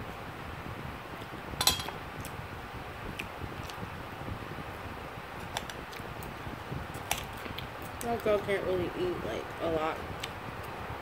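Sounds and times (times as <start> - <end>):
fan-like hum: 0.0 - 11.0.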